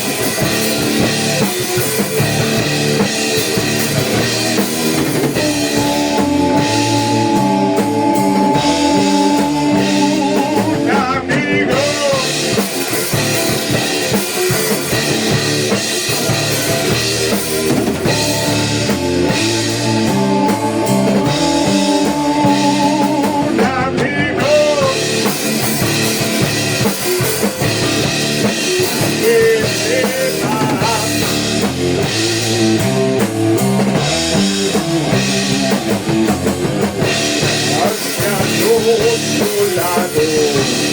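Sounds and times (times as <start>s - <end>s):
bent electric guitar notes: 0.0s - 40.9s
rock band playing: 0.0s - 40.9s.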